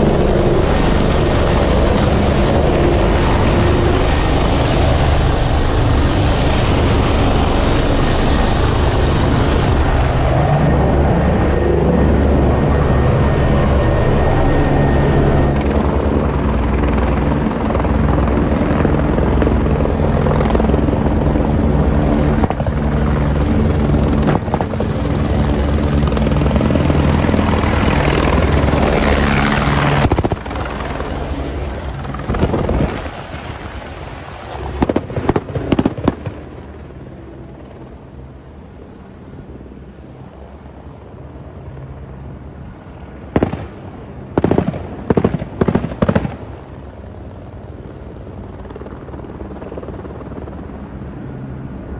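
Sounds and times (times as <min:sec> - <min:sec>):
helicopter hovering: 0:00.0 - 0:51.9.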